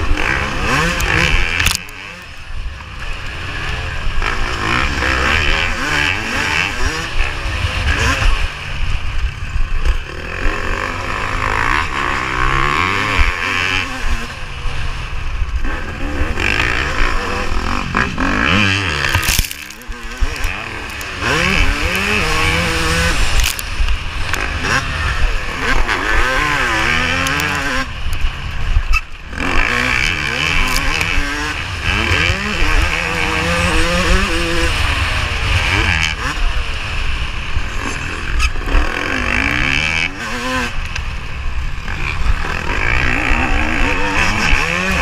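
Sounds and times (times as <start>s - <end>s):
motocross engine revving: 0.0s - 45.0s.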